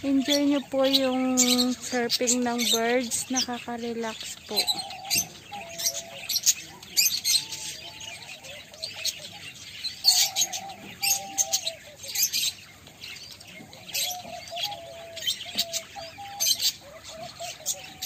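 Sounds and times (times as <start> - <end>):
low warbling bird calls: 0.0 - 18.0
parakeets chirping: 0.0 - 18.0.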